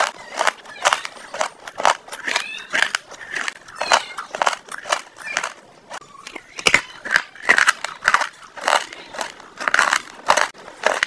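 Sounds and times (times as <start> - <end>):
person chewing and lip-smacking: 0.0 - 5.6, 6.2 - 11.0.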